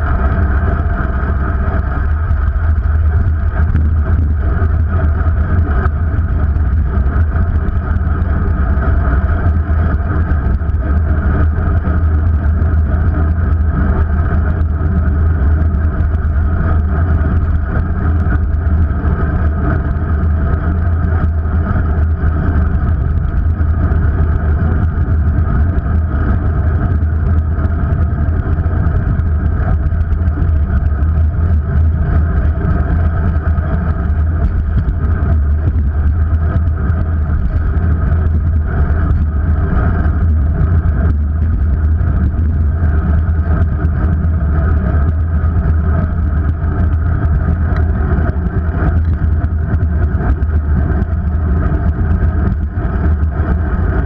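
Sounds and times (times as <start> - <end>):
bicycle road vibration: 0.0 - 54.0.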